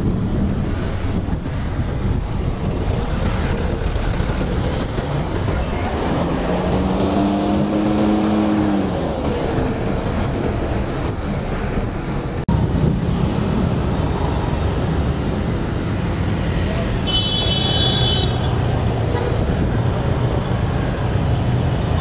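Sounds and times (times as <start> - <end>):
bus running alongside: 0.0 - 22.0
street traffic: 0.0 - 22.0.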